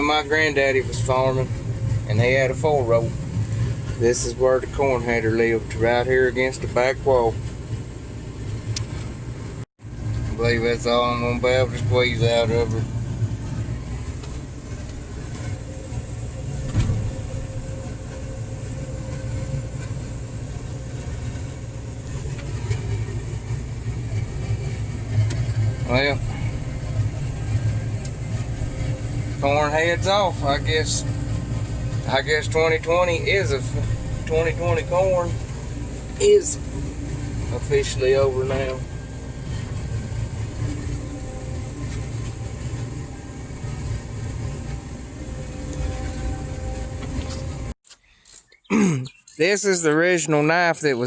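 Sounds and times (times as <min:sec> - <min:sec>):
diesel engine idling: 0:00.0 - 0:47.8.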